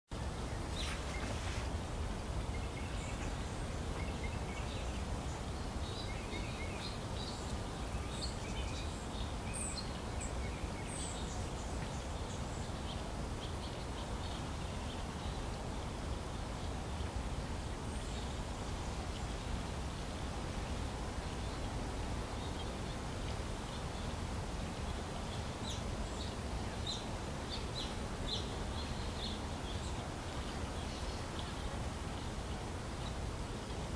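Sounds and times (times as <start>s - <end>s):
low rumble and hiss: 0.1s - 33.9s.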